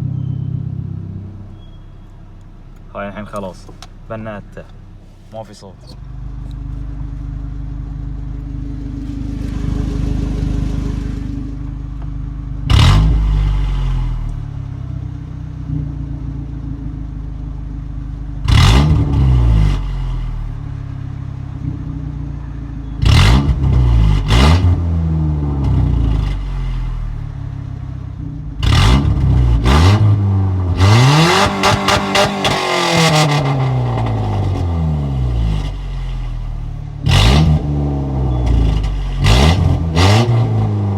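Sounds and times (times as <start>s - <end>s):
car engine revving: 0.6s - 40.9s.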